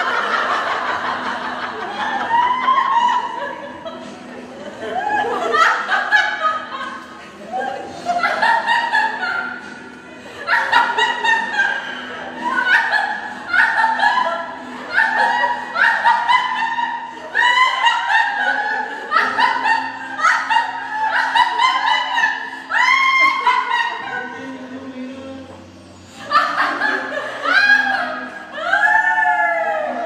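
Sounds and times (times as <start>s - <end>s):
women shrieking with laughter: 0.0s - 9.7s, 10.4s - 24.5s, 26.2s - 30.0s.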